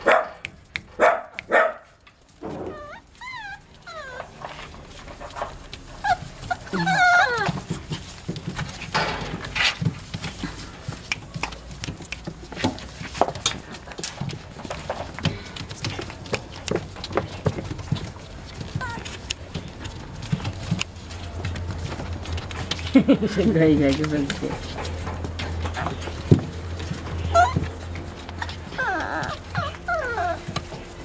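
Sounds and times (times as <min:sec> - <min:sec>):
paws scratching on newspaper: 0:00.1 - 0:31.0
puppies yapping: 0:01.0 - 0:23.0, 0:24.3 - 0:31.0
puppies whining: 0:02.4 - 0:12.6, 0:13.4 - 0:23.0, 0:24.2 - 0:31.0.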